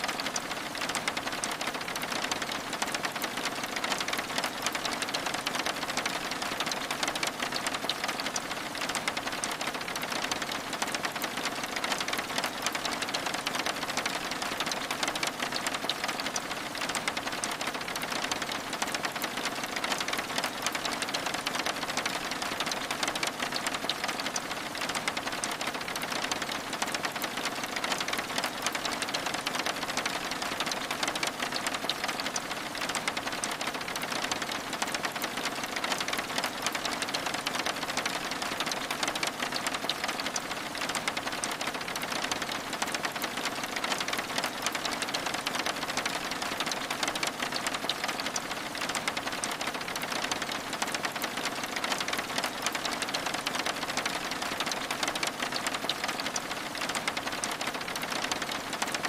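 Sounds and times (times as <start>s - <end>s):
rain pattering on window glass: 0.0s - 59.0s.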